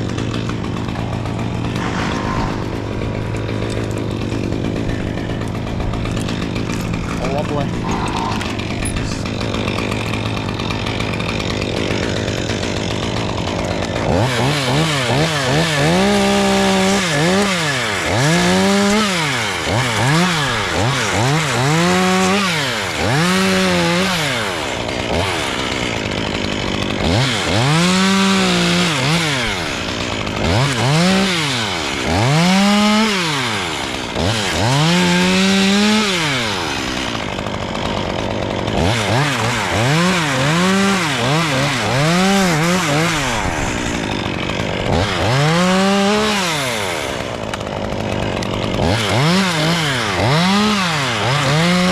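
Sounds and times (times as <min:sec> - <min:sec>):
chainsaw revving: 0:00.0 - 0:51.9.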